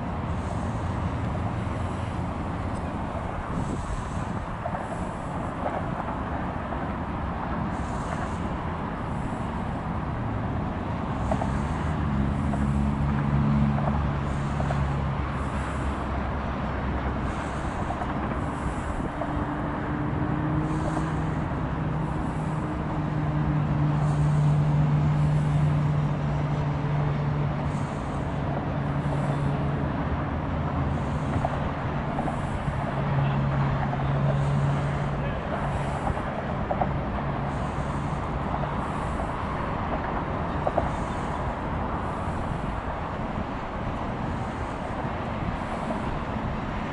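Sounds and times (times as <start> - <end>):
traffic rumble: 0.0 - 46.9
vehicle engine low hum: 0.0 - 46.9.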